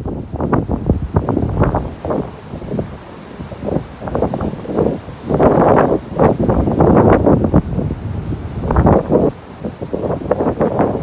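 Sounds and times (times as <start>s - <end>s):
wind gusts buffeting microphone: 0.0s - 11.0s.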